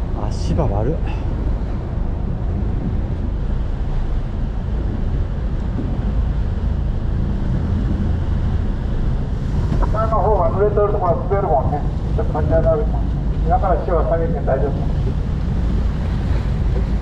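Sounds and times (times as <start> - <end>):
boat engine running: 0.0 - 17.0
wind rushing over microphone: 0.0 - 17.0.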